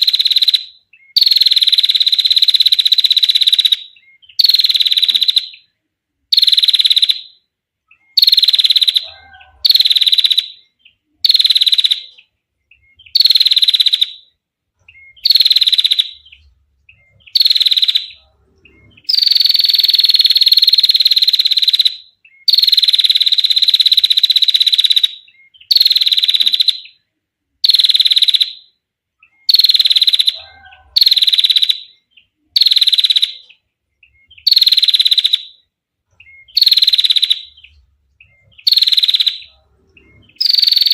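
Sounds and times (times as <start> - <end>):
bird trilling: 0.0 - 5.7, 6.3 - 27.0, 27.6 - 40.9.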